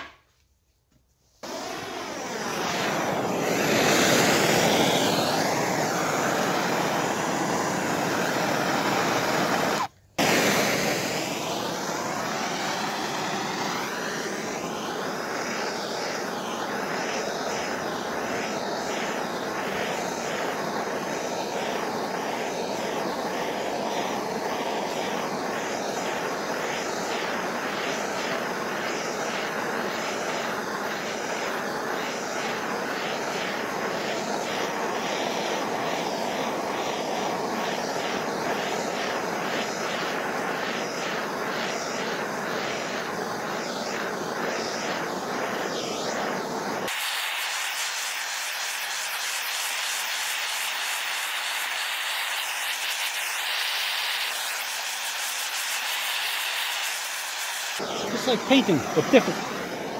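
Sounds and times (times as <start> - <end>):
propane torch hissing: 1.3 - 59.9.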